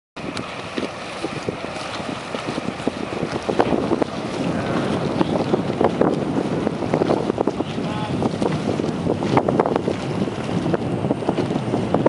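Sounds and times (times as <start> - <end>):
ship engine running: 0.2 - 12.0
wind gusting on microphone: 0.2 - 12.0.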